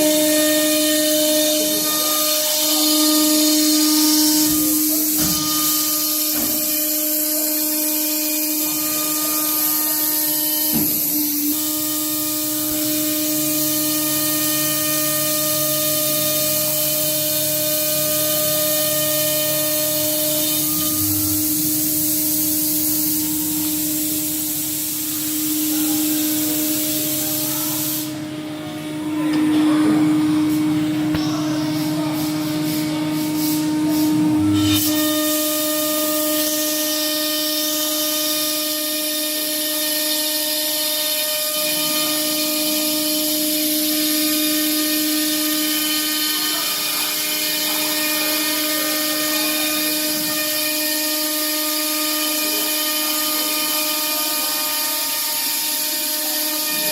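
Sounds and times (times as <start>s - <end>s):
router spindle whine: 0.0s - 56.9s.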